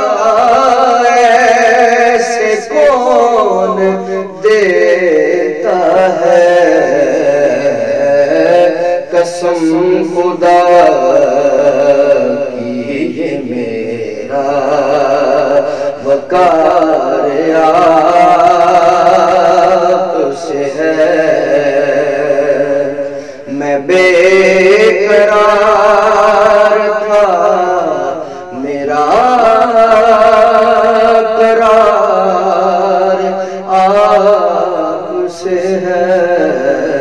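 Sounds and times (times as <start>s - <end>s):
man singing devotional song: 0.0s - 37.0s.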